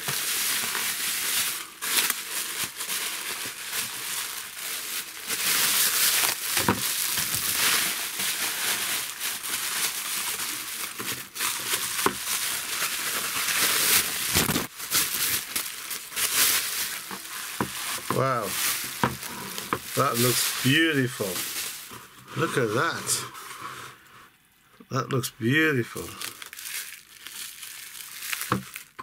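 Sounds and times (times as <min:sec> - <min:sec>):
bubble wrap crinkling: 0:00.0 - 0:23.5, 0:25.8 - 0:29.0.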